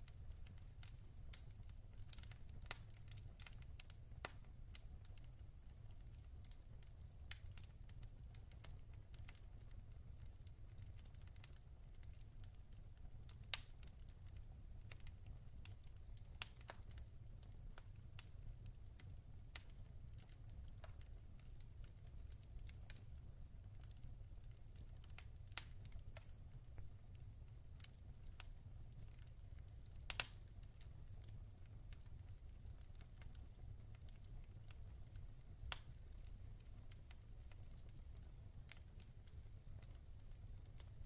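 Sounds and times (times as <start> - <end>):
log fire crackling and popping: 0.0 - 41.0.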